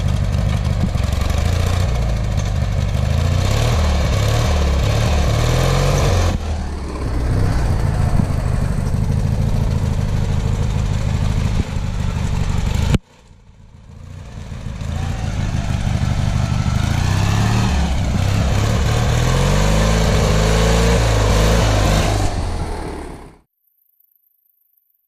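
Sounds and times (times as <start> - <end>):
lawn tractor engine: 0.0 - 23.4.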